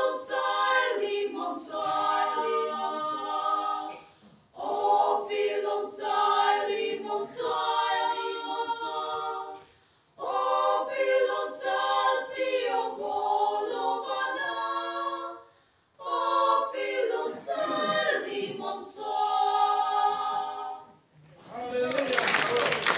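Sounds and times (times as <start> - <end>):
women's group singing a cappella: 0.0 - 21.1.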